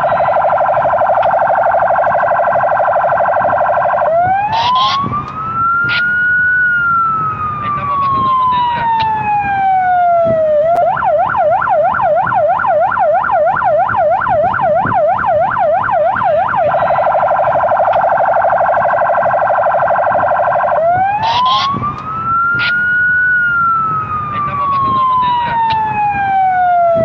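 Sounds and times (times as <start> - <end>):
police siren cycling tones: 0.0 - 27.0.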